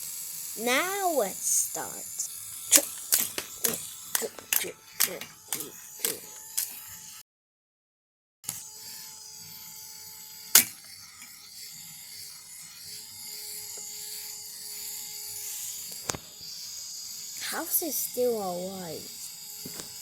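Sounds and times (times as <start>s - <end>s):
small electric motor whirring: 0.0s - 7.2s, 8.5s - 20.0s.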